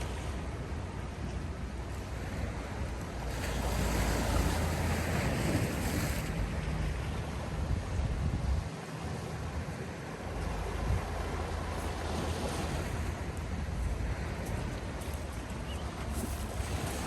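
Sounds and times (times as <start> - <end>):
sea waves on shore: 0.0 - 17.0
wind rumble on microphone: 0.0 - 17.0.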